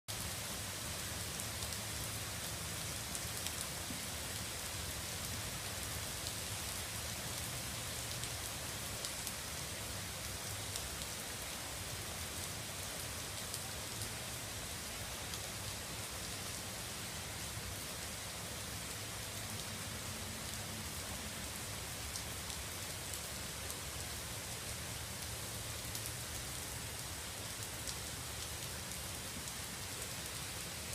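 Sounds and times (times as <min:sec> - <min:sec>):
steady rain hiss: 0:00.1 - 0:30.9.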